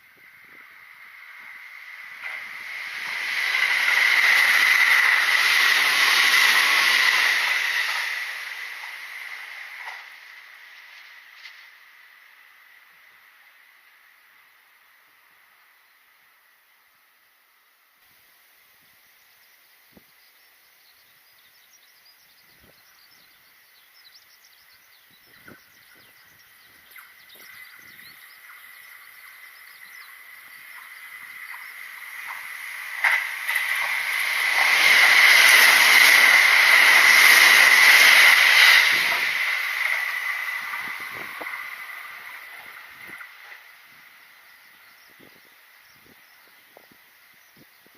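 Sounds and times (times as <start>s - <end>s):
electric train passing: 0.0s - 16.8s, 18.2s - 47.8s.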